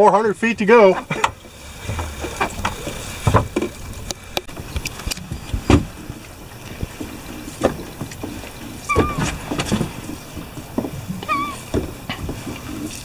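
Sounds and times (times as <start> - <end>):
rope knocking and rubbing on boat: 1.0 - 13.0.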